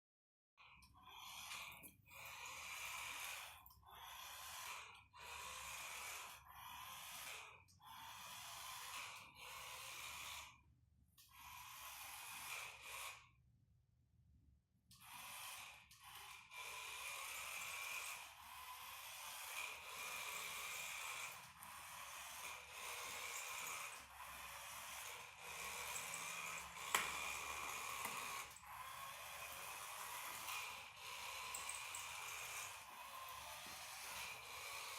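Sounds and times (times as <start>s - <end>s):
toy car motor whirring: 0.6s - 13.5s, 14.9s - 34.9s.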